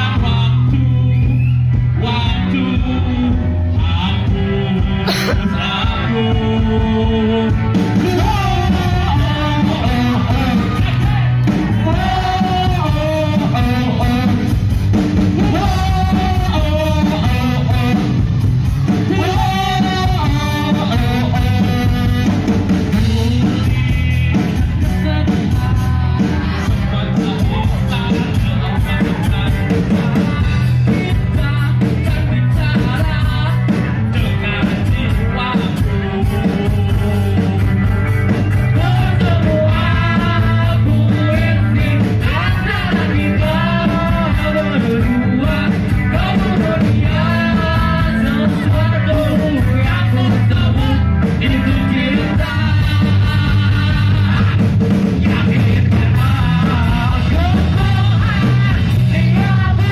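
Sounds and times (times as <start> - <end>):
drum kit: 0.0 - 59.9
electric guitars: 0.0 - 59.9
man singing: 0.0 - 59.9.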